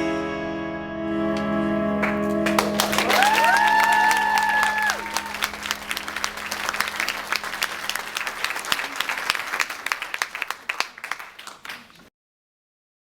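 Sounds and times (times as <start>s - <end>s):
audience applauding: 1.3s - 12.1s.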